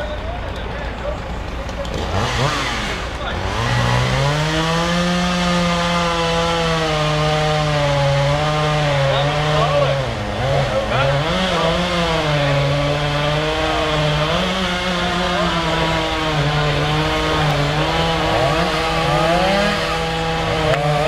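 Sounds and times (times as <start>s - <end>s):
chainsaw running: 1.3s - 21.0s.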